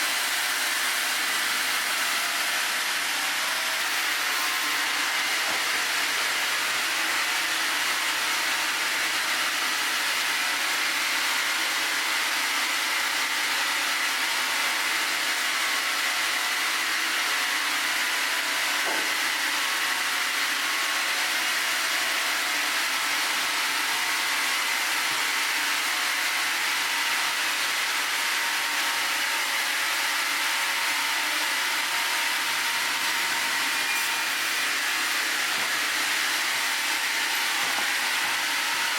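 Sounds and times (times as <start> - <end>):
sawmill running with high whine: 0.0 - 38.9.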